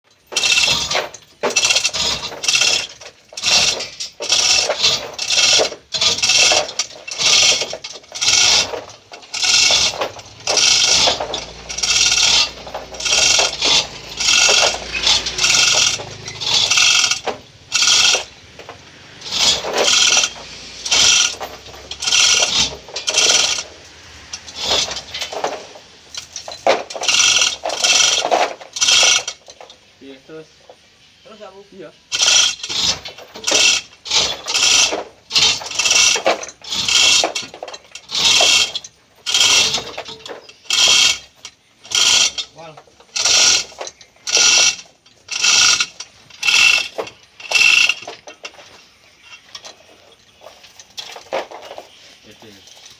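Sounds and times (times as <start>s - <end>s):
metal ratchet clicking: 0.2s - 18.4s, 19.2s - 29.7s, 32.1s - 48.5s.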